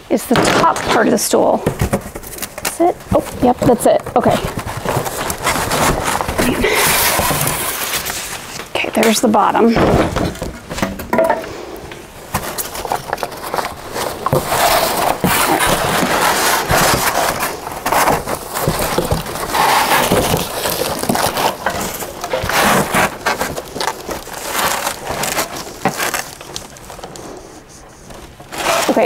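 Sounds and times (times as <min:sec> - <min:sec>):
cardboard and plastic packing rustling: 0:00.0 - 0:29.0
small knocks and crunches: 0:00.1 - 0:29.0.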